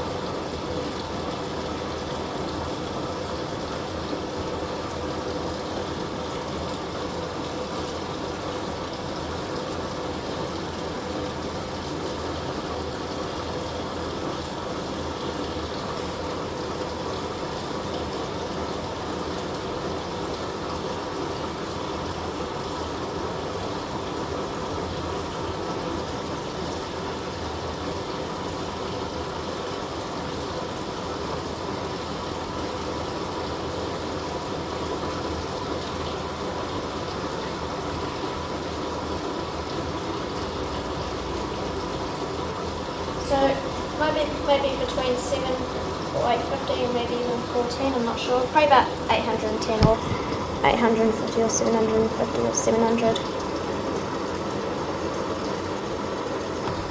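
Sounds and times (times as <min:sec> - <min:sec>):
faint motor hum: 0:00.0 - 0:56.9
water pouring into washing machine: 0:00.0 - 0:56.9.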